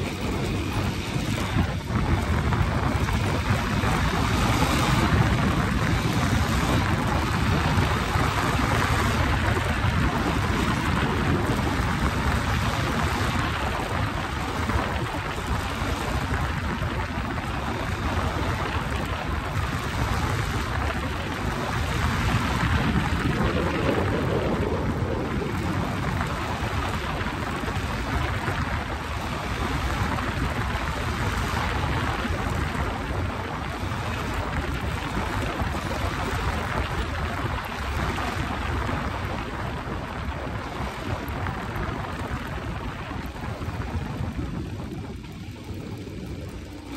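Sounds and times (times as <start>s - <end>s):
motorcycle engine: 0.0s - 46.9s
wind rushing over microphone: 0.0s - 46.9s.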